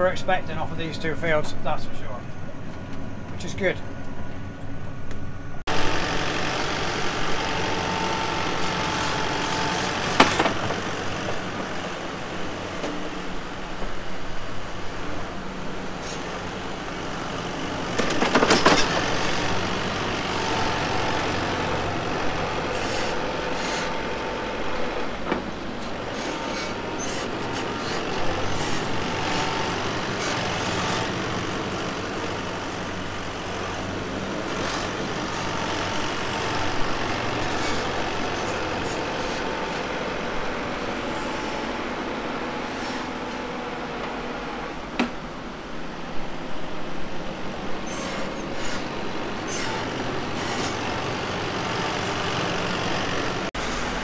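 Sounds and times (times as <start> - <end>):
tractor engines running: 0.0 - 54.0.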